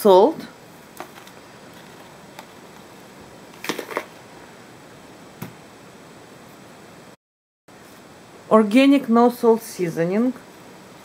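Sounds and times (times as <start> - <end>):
room hiss: 0.0 - 11.0.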